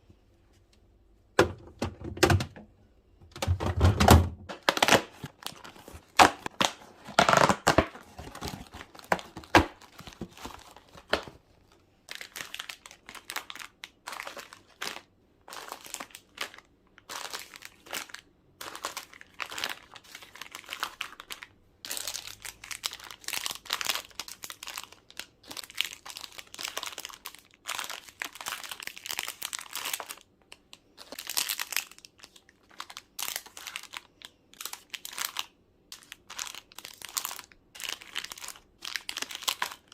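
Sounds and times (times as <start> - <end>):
plastic packaging crinkling: 3.5 - 39.9.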